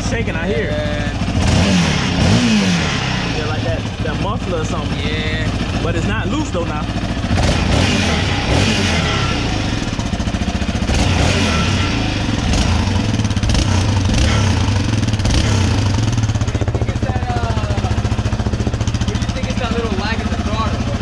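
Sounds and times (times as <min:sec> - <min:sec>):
engine running at low revs: 0:00.0 - 0:21.0
exhaust rattle: 0:00.0 - 0:21.0.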